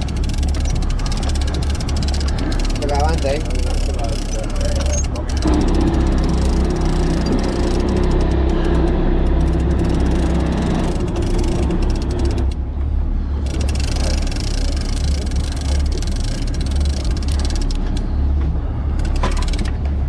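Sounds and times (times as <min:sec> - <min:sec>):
boat engine humming: 0:00.0 - 0:20.0
wind: 0:00.0 - 0:20.0.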